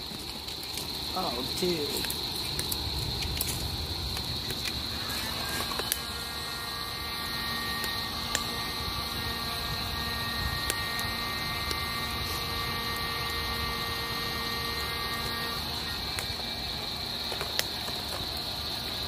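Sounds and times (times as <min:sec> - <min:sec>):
faint steady hum: 0:00.0 - 0:19.0
wood fire crackling and popping: 0:00.0 - 0:19.0.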